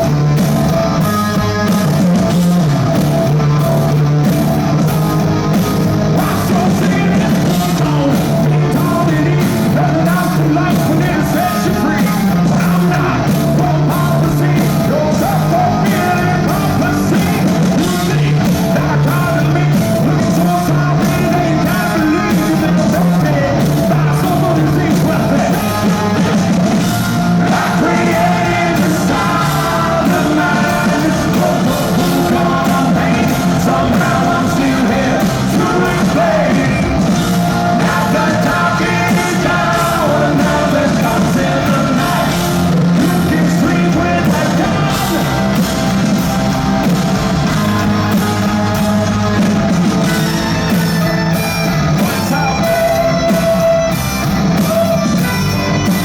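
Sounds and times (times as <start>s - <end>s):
live rock band playing: 0.0s - 56.0s
shouted singing: 6.1s - 56.0s.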